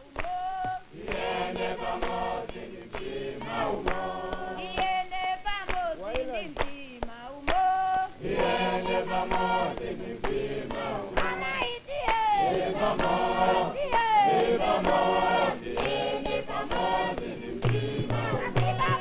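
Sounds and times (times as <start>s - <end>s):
choir singing: 0.0s - 5.2s, 7.6s - 19.0s.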